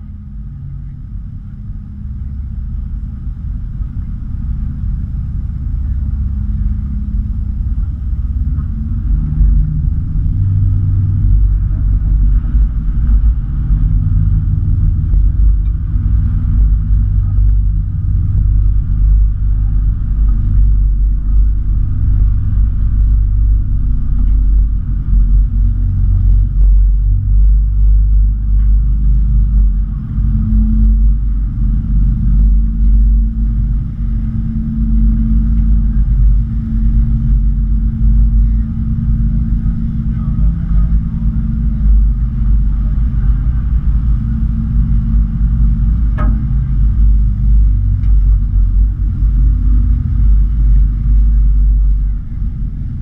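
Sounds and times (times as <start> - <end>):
boat engine rumbling: 0.0 - 53.0.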